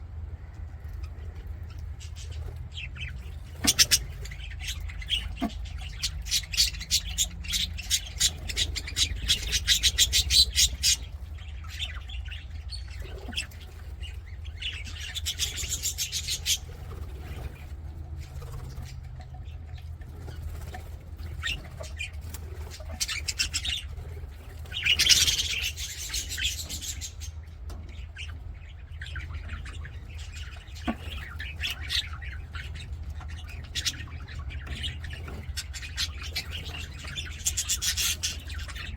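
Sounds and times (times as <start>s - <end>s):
steady low hum: 0.0s - 38.9s
budgerigars chirping: 1.0s - 38.9s.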